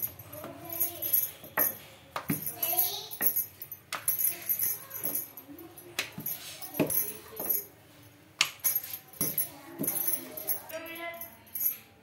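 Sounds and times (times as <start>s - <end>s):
bangles jingling: 0.0s - 7.8s, 8.4s - 11.9s.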